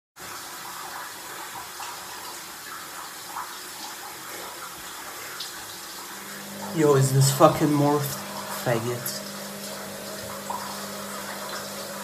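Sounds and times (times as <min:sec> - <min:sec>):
running water hiss: 0:00.2 - 0:12.0.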